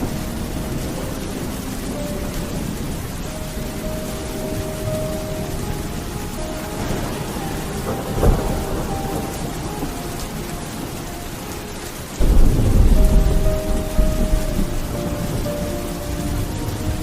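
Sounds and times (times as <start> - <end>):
thunder crack: 0.0 - 11.0, 12.2 - 17.0
low rumble of thunder: 0.0 - 17.0
steady rain: 0.0 - 17.0.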